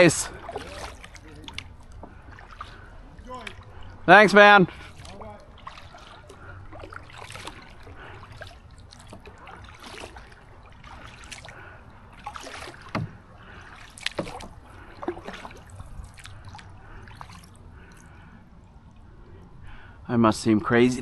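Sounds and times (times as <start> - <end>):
paddle splashing in water: 0.0 - 18.3.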